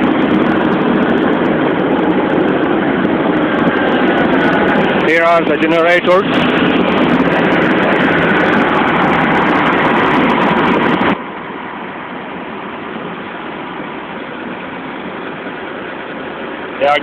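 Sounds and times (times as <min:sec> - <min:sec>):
generator engines running: 0:00.0 - 0:17.0.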